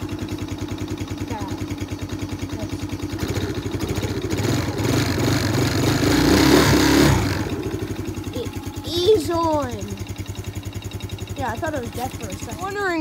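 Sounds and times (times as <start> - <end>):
atv engine idling and revving: 0.0 - 13.0.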